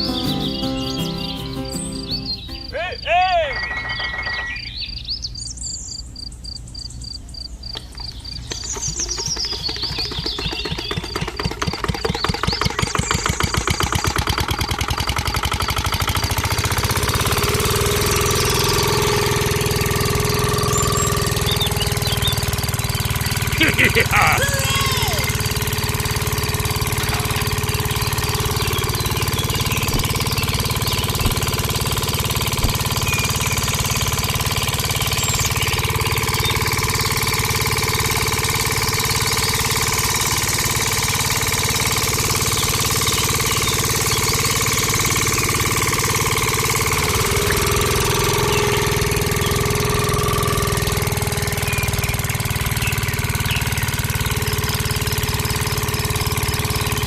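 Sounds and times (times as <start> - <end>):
motor running: 0.0 - 2.5, 13.2 - 57.0.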